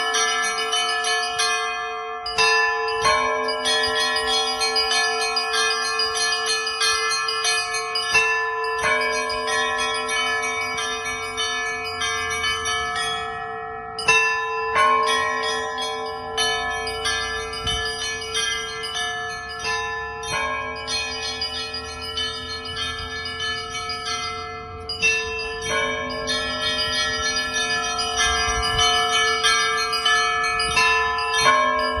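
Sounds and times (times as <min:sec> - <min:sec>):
middle bells ringing: 0:00.0 - 0:32.0
small high-pitched bells ringing: 0:00.0 - 0:32.0.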